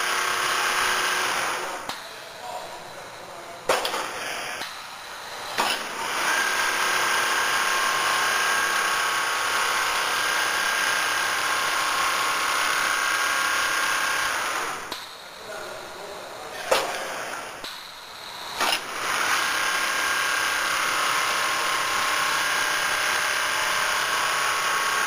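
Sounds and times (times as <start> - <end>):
quilting machine whirring: 0.0 - 2.0, 3.7 - 15.4, 16.6 - 25.0.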